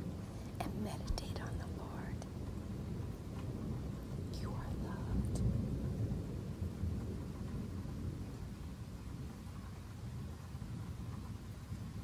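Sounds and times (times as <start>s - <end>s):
distant thunder rumble: 0.0s - 12.0s.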